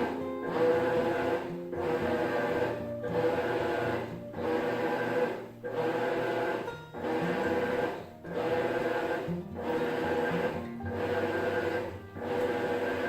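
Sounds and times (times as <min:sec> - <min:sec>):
background music with pulse: 0:00.0 - 0:13.0.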